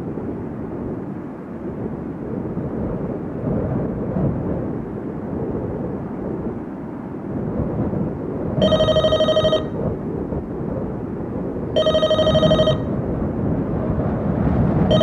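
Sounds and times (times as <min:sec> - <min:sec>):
strong wind rumbling rush: 0:00.0 - 0:15.0.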